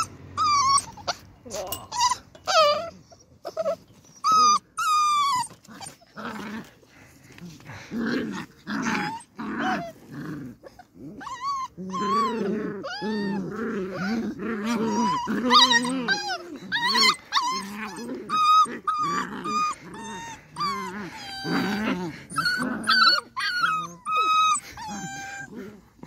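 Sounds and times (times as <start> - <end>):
puppies whining and yipping: 0.0 - 6.9, 7.8 - 26.0
puppies yelping: 0.0 - 7.0, 7.8 - 26.0
puppy growls: 0.0 - 26.0.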